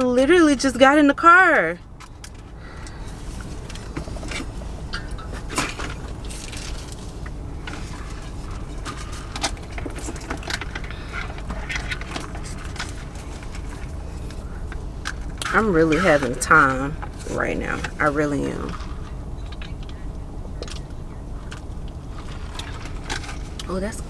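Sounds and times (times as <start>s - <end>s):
car interior low rumble: 0.0s - 24.0s.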